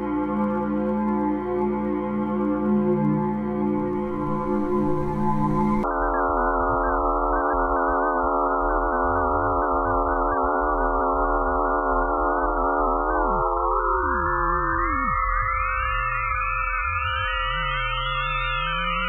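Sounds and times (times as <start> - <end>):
eerie electronic wavering tones: 0.0 - 19.0.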